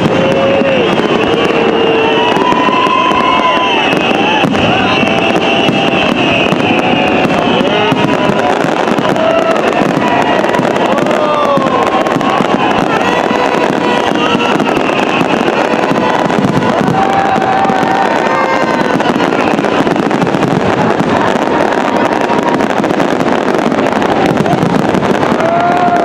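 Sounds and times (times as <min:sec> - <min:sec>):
firework whistles: 0:00.0 - 0:26.0
fireworks bursting and crackling: 0:00.0 - 0:26.0.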